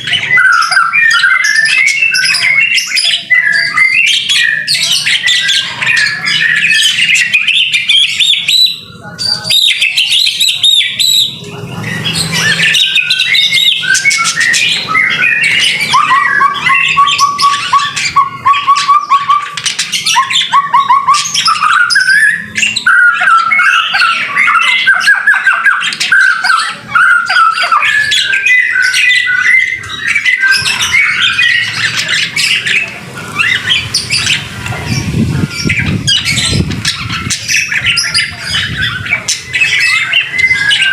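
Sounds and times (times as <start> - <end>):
bird singing whistles and chatter: 0.0 - 40.9.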